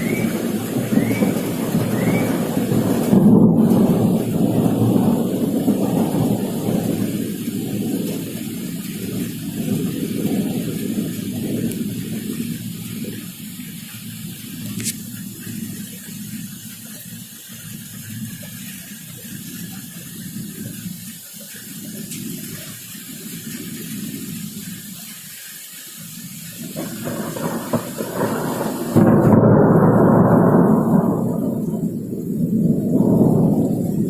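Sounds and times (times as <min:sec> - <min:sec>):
thunder rumbling: 0:00.0 - 0:25.1, 0:26.0 - 0:34.0
rain hissing: 0:00.0 - 0:34.0.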